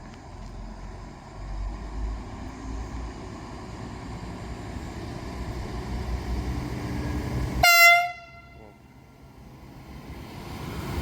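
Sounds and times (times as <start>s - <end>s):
diesel train engines rumbling: 0.0s - 11.0s.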